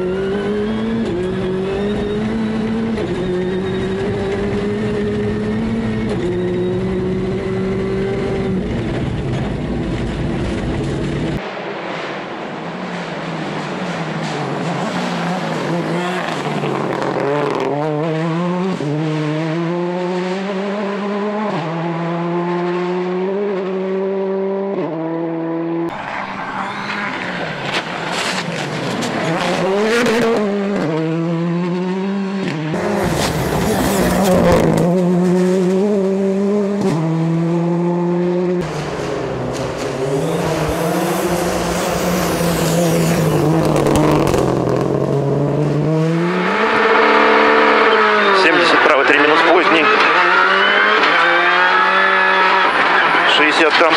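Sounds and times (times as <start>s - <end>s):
rally car engine accelerating: 0.0s - 11.4s, 12.9s - 53.9s
tyre and road noise: 0.0s - 53.9s.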